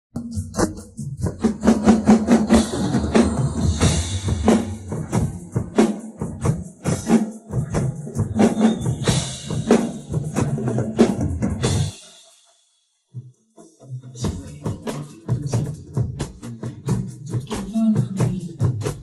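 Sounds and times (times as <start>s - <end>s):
recorded backing music: 0.2s - 12.2s, 13.6s - 19.0s
drum kit played with sticks: 0.2s - 12.4s, 14.2s - 19.0s.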